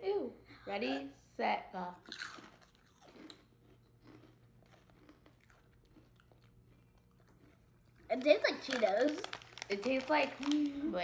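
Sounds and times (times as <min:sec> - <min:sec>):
faint chewing: 0:02.0 - 0:11.0.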